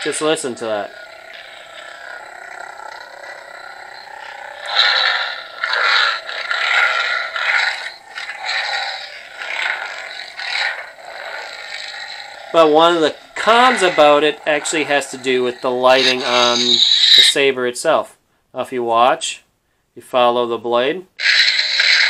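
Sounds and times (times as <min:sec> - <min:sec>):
toy lightsaber hum and swings: 0:00.0 - 0:17.5, 0:21.2 - 0:22.0.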